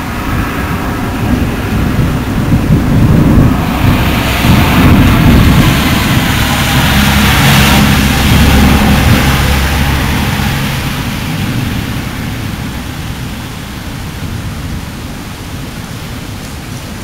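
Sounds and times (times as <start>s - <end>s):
fireworks rumbling: 0.0s - 15.8s.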